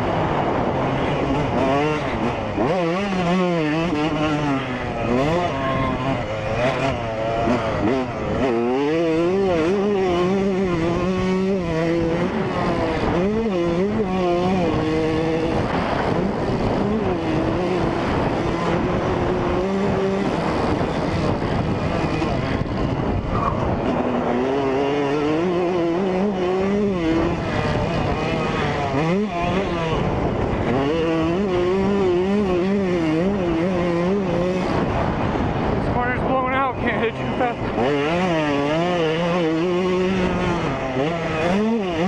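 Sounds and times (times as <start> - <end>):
two-stroke motorcycle engine revving: 0.0 - 42.0.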